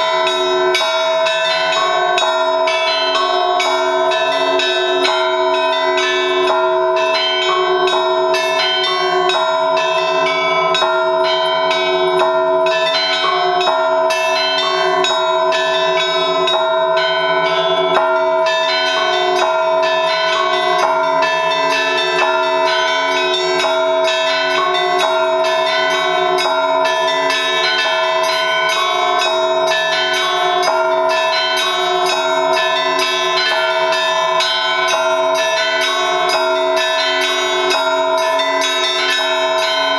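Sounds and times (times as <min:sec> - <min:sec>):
large bells ringing: 0:00.0 - 0:39.9
small bells struck rapidly: 0:00.0 - 0:39.9.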